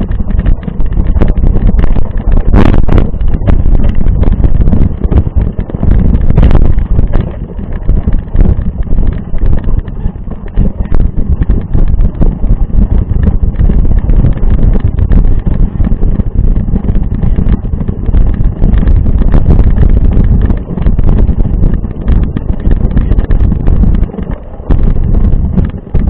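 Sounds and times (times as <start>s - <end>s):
bike knocks and rattles: 0.0s - 26.0s
wind buffeting microphone: 0.0s - 26.0s.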